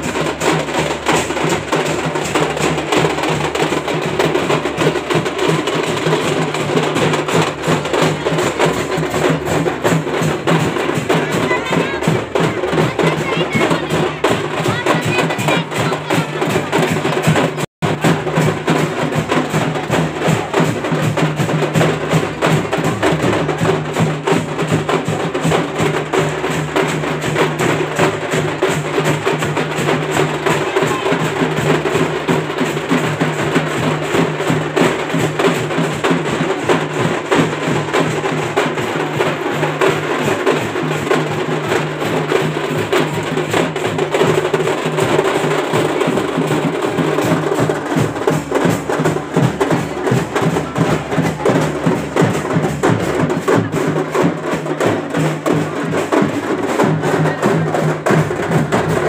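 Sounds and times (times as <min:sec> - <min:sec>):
rapid drumming: 0:00.0 - 0:59.0.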